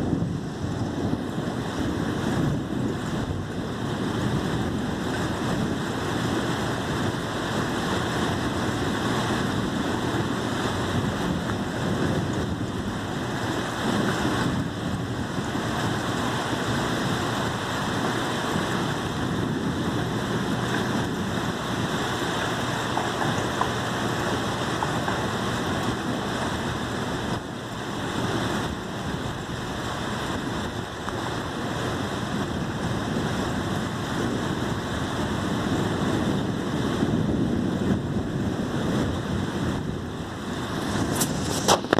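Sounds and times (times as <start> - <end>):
rain pouring: 0.0 - 41.9.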